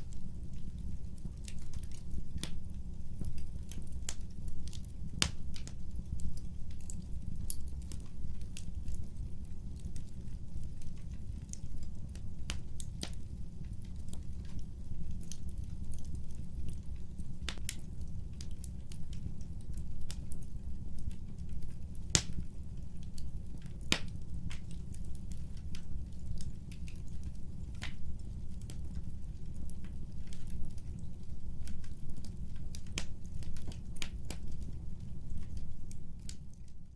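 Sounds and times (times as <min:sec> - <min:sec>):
burning wood crackling and popping: 0:00.0 - 0:36.9.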